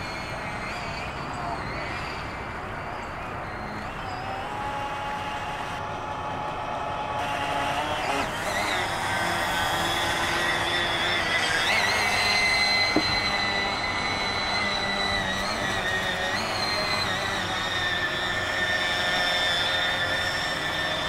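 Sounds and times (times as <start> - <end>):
model boat motor whine: 0.0 - 21.0.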